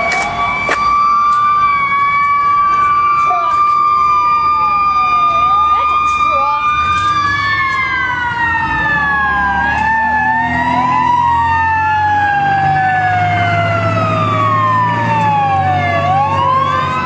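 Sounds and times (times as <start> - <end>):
emergency sirens wailing: 0.0 - 17.0.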